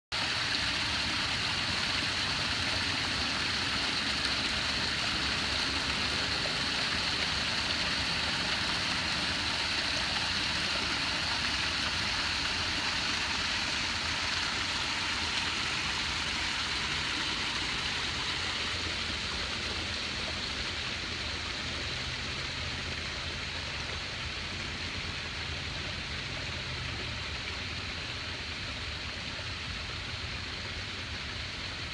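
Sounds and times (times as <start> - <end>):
water splashing over rocks: 0.1 - 31.9.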